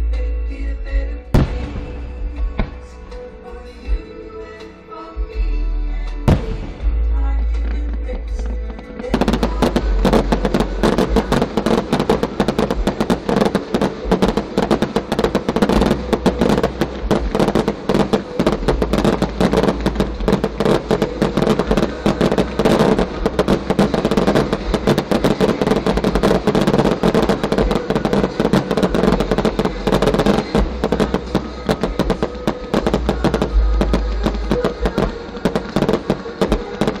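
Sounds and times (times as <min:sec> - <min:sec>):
fireworks bangs and crackling: 0:01.3 - 0:03.4, 0:06.1 - 0:37.0.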